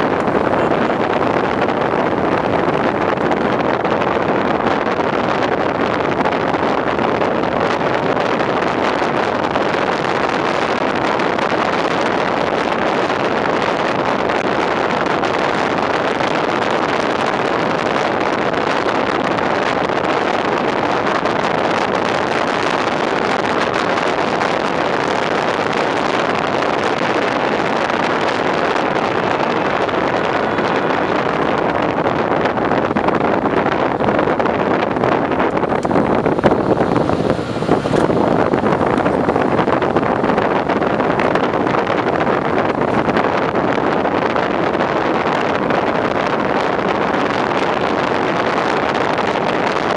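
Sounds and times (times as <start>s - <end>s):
fire engine road noise: 0.0s - 49.9s
wind rushing across microphone: 0.0s - 49.9s.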